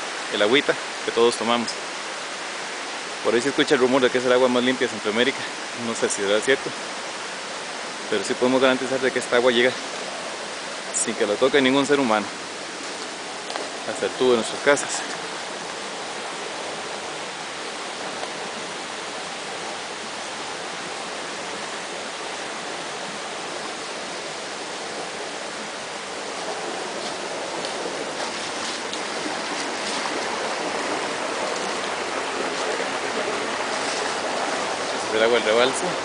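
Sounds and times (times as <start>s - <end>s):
water rushing into stone channel: 0.0s - 36.0s.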